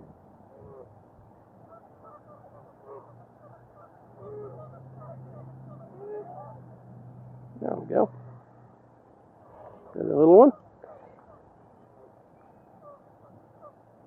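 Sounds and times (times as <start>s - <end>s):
birds calling: 1.6s - 6.7s, 7.6s - 14.0s.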